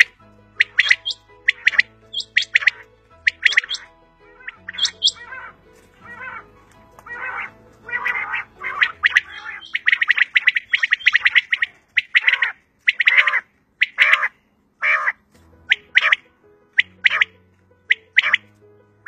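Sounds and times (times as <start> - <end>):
quail calling: 0.0 - 18.5.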